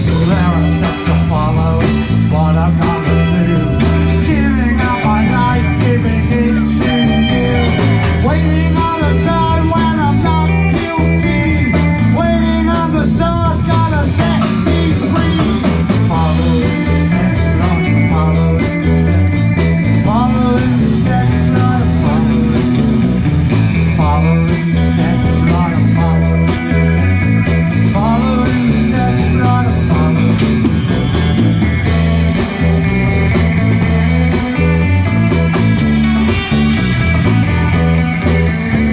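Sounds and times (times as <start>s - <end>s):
bass: 0.0s - 38.9s
drums and percussion: 0.0s - 38.9s
electric guitar solo: 0.0s - 38.9s.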